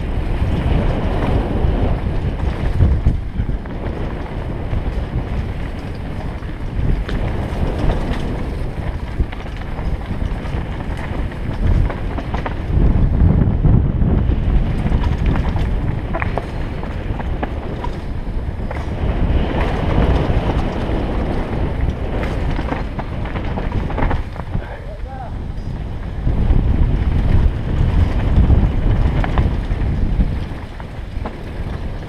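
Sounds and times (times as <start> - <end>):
bike clicks and rattles: 0.0 - 32.0
tyres on dirt and loose stones: 0.0 - 32.0
wind buffeting microphone: 0.0 - 32.0.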